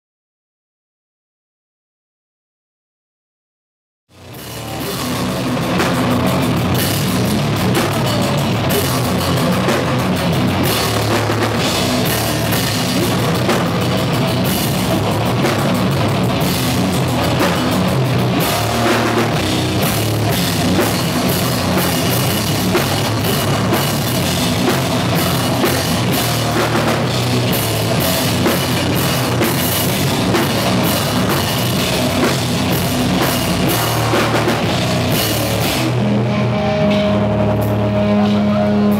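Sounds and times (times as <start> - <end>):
distorted electric guitar: 4.1 - 38.9
drum kit with cymbals: 4.1 - 38.9.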